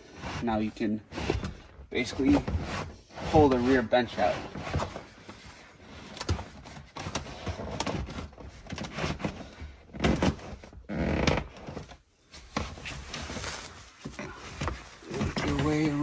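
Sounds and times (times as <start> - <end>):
upholstery rubbing and shifting: 0.0 - 16.0.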